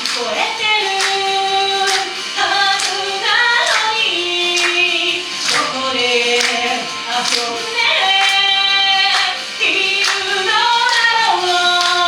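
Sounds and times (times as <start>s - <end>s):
backing track with steady beat: 0.0s - 12.0s
woman singing pop song: 0.0s - 12.0s.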